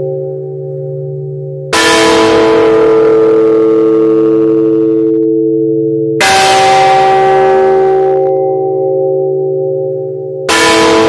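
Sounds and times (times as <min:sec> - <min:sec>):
church bell tolling: 0:00.0 - 0:11.0.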